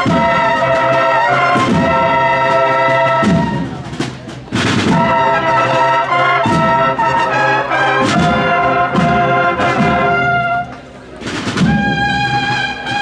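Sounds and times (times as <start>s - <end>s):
brass band playing march: 0.0s - 13.0s.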